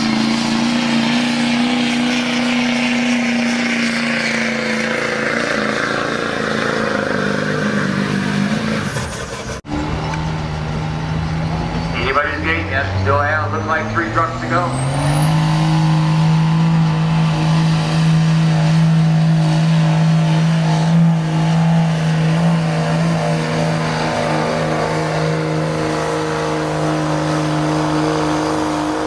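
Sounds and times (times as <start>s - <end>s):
diesel truck engine at high revs: 0.0s - 29.0s
turbocharger whistle: 0.0s - 29.0s.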